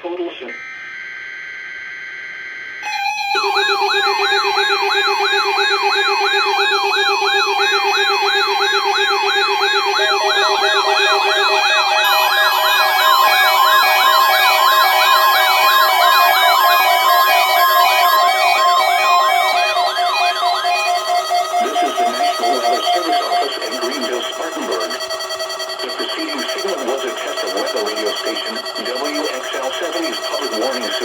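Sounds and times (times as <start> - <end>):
steady alarm beeps: 0.5 - 31.0
warbling siren tone: 0.5 - 31.0.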